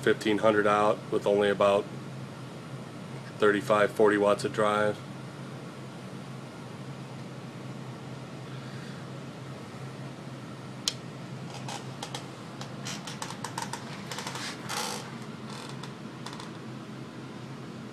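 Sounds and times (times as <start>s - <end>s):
cooling fan hum and hiss: 0.0s - 17.9s.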